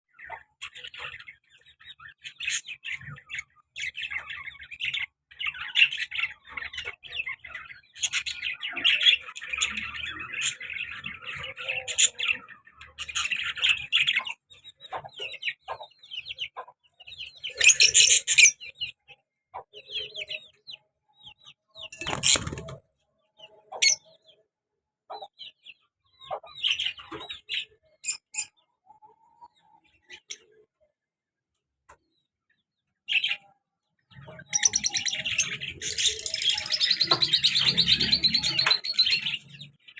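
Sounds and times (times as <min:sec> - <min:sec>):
lovebirds chirping and chattering: 0:00.1 - 0:31.1, 0:31.9 - 0:39.9.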